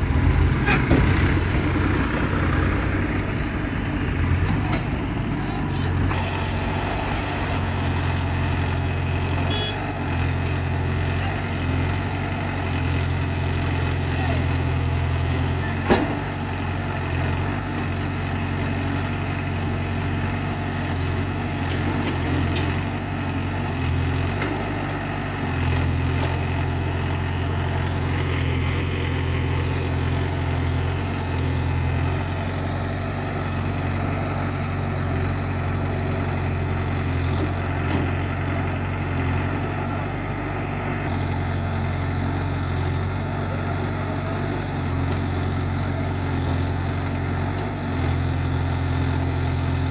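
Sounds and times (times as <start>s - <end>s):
diesel engine running at low revs: 0.0s - 49.9s.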